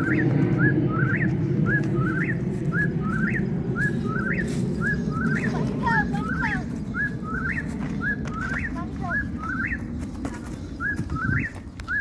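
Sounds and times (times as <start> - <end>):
bird-like chirping: 0.0 - 12.0
steady low rumble: 0.0 - 12.0.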